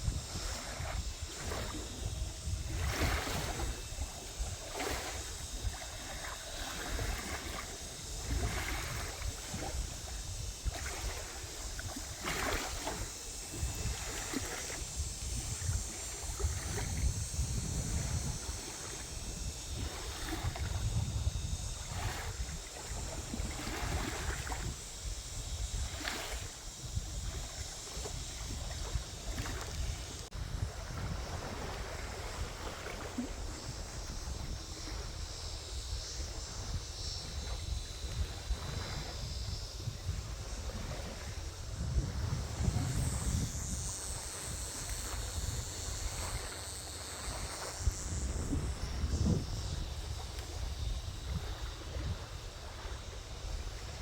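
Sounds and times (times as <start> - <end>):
insects droning: 0.0 - 54.0
water lapping against a dock: 0.0 - 54.0
wind rumbling on microphone: 0.0 - 54.0.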